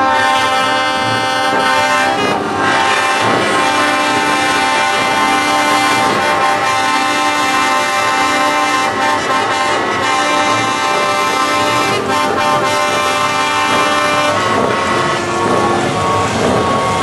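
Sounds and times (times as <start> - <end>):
truck air horns chord: 0.0 - 17.0.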